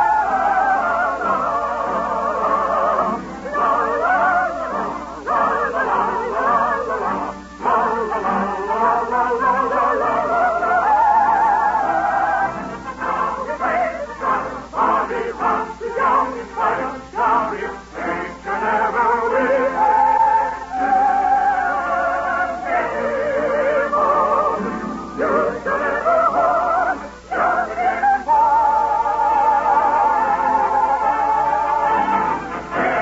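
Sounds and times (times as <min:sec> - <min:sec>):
operetta singing with vibrato: 0:00.0 - 0:33.0.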